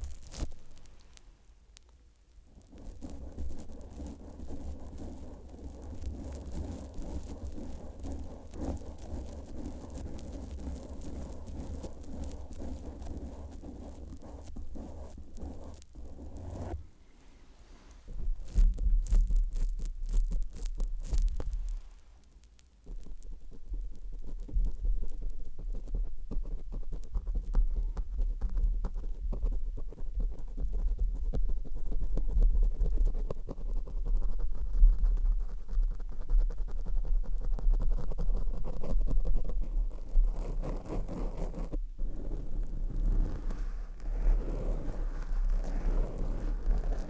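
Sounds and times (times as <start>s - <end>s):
scratching and rubbing on microphone: 0.0s - 1.2s, 2.6s - 47.0s.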